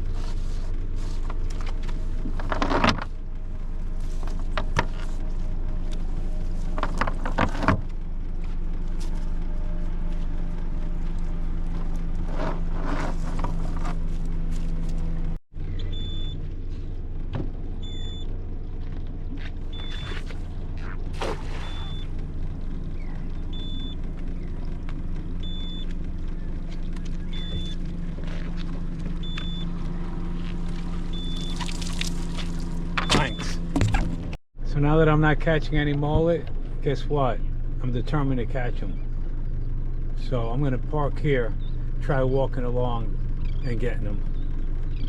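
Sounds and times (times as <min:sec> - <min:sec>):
boat motor running: 0:00.0 - 0:45.0.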